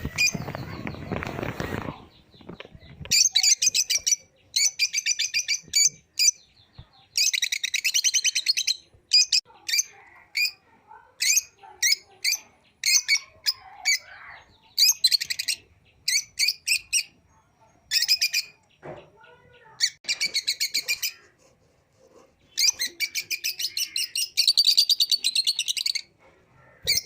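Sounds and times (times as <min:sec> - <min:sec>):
lovebirds chirping: 0:00.0 - 0:27.0.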